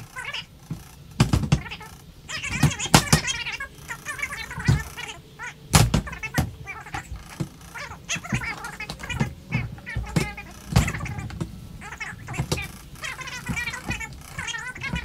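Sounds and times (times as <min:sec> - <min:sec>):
sped-up chirpy chatter: 0:00.0 - 0:15.0.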